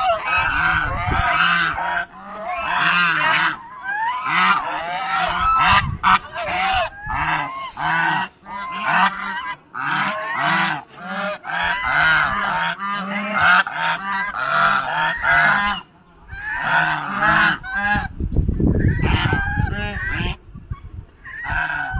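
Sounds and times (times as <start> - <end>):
poultry flock calling: 0.0 - 21.9.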